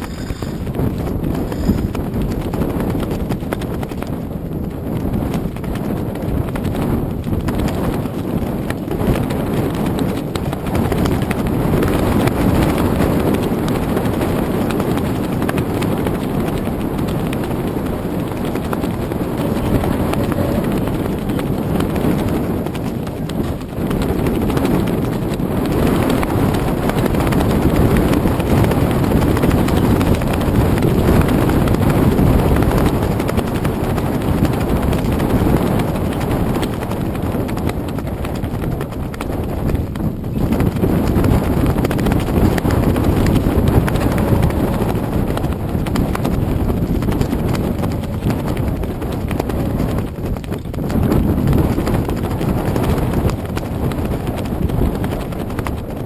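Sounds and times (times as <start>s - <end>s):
wind rushing: 0.0s - 56.0s.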